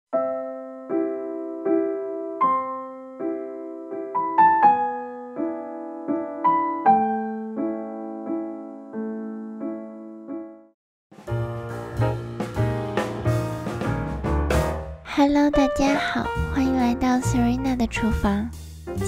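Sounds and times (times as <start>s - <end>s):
piano tune: 0.1s - 19.0s.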